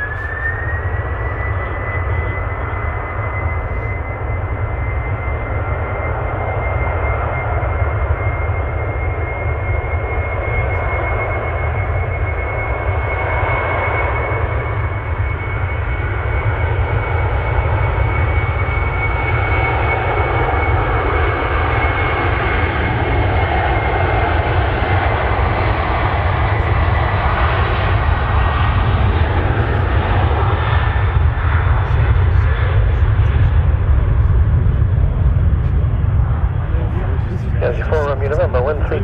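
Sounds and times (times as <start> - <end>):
jet engines rushing and whining: 0.0 - 39.0.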